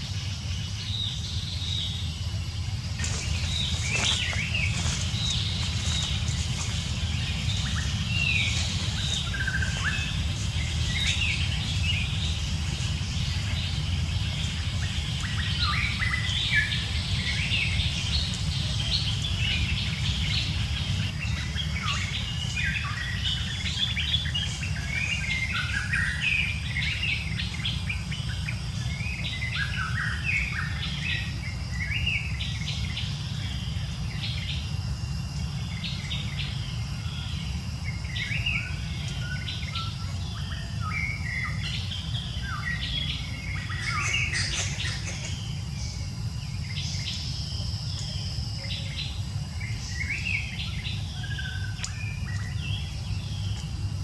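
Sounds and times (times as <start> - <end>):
high chirping calls: 0.0 - 34.8, 35.7 - 54.0
steady low rumble: 0.0 - 54.0.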